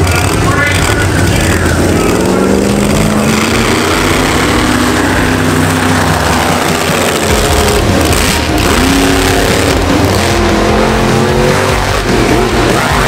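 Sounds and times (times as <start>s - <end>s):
truck engines revving: 0.0s - 13.0s.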